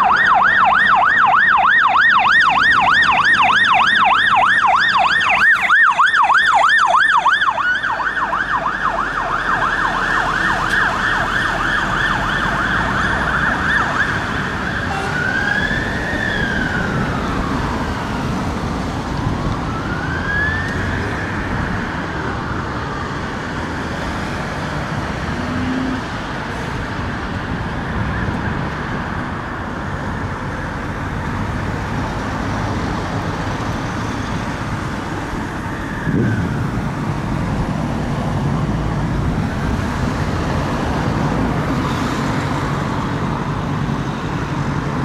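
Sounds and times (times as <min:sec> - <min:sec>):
fire engine siren: 0:00.0 - 0:45.0
traffic noise: 0:00.0 - 0:45.0.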